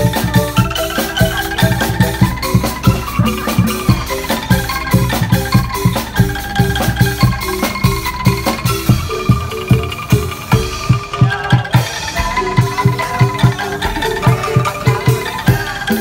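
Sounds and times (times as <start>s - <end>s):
angklung and mallet notes: 0.0s - 16.0s
steady drum beat: 0.0s - 16.0s.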